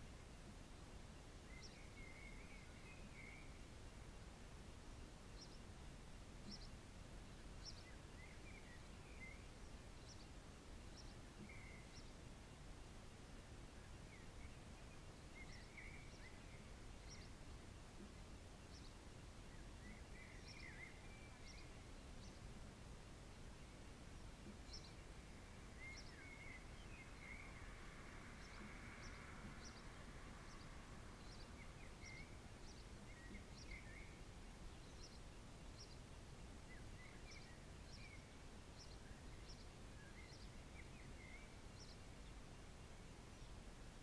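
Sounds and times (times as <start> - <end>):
distant small birds chirping: 0.0 - 44.0
low steady background hum: 0.0 - 44.0.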